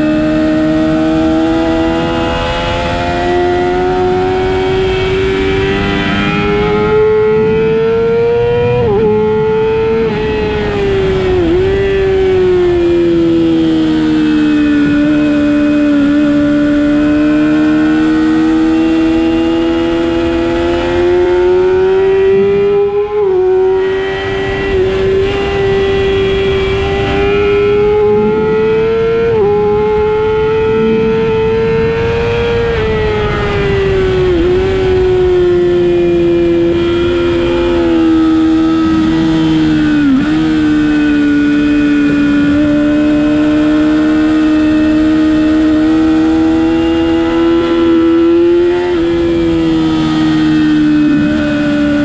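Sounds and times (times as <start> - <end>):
motorcycle engine at high revs: 0.0 - 52.0
wind rush on microphone: 0.0 - 52.0.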